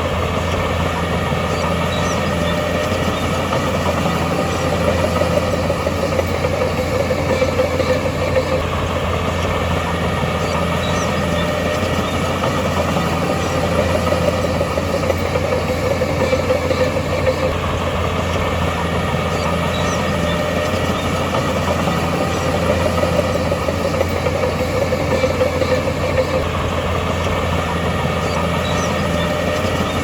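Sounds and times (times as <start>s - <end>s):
heavy machinery diesel engine: 0.0s - 30.0s.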